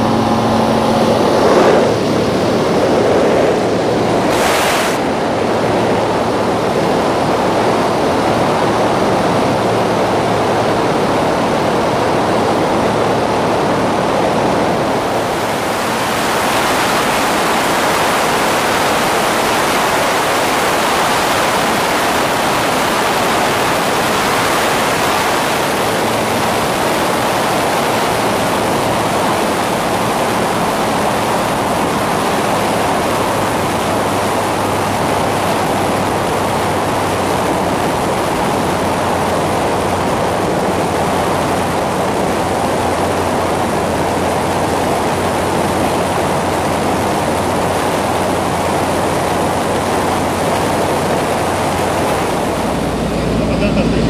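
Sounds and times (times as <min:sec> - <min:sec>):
rush of airflow: 0:00.0 - 0:43.2, 0:44.2 - 0:54.0
aircraft engine and propeller drone: 0:00.0 - 0:54.0.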